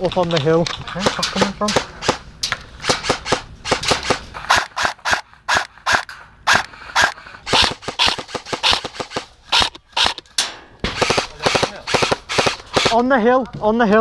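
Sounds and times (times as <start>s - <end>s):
airsoft rifle shots: 0.9s - 13.2s.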